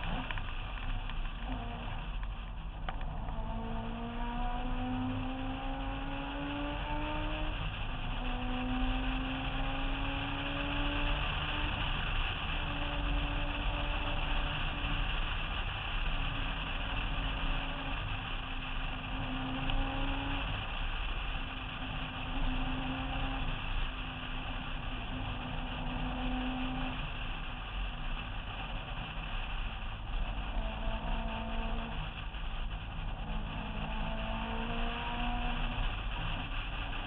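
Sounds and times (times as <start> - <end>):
car engine running: 0.0 - 37.0
wind rumble on microphone: 0.0 - 37.0.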